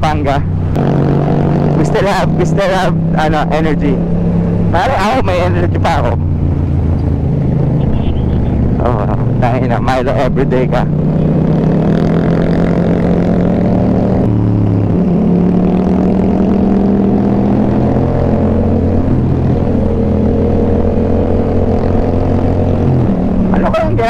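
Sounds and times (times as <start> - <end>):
motorcycle engine drone: 0.0 - 24.0.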